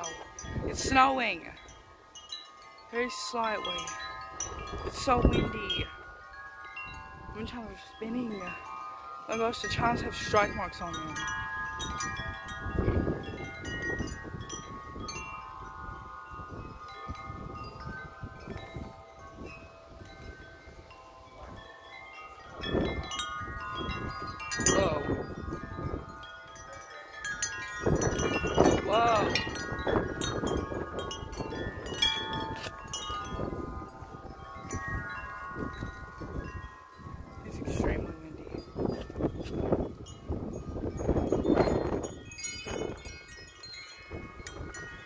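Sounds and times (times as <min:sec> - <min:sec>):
wind buffeting microphone: 0:00.0 - 0:45.0
wind chimes ringing: 0:00.0 - 0:45.0.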